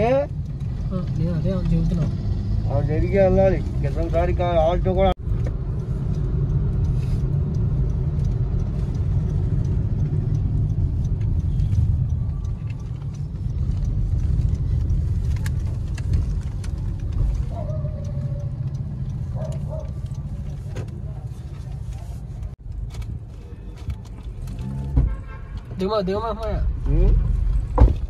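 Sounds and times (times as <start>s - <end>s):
car cabin road rumble: 0.0s - 28.0s.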